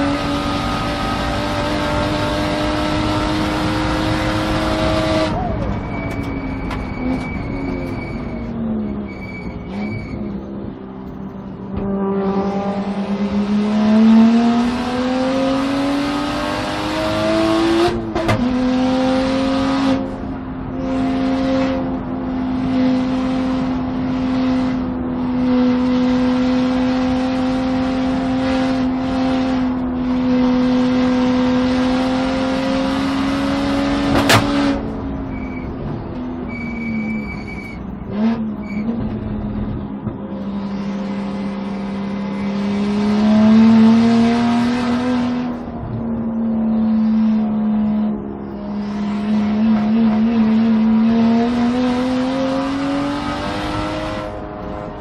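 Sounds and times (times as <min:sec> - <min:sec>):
race car engine revving: 0:00.0 - 0:06.3, 0:11.7 - 0:36.6, 0:37.9 - 0:55.0.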